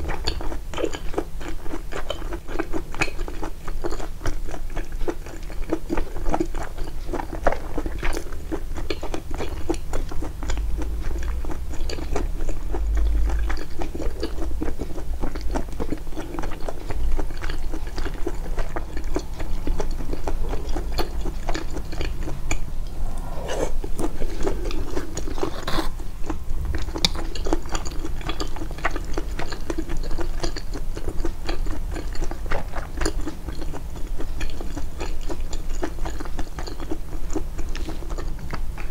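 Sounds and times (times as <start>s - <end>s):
chewing and biting food: 0.0s - 38.9s.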